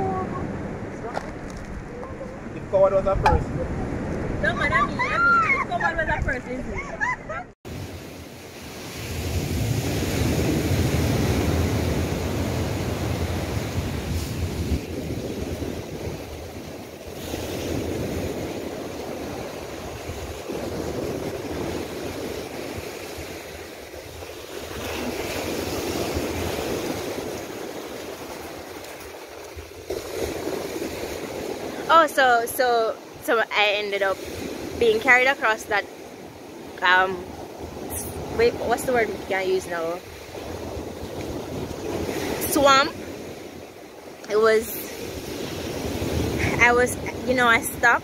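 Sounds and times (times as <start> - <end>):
ocean surf on sandy beach: 0.0 - 48.0.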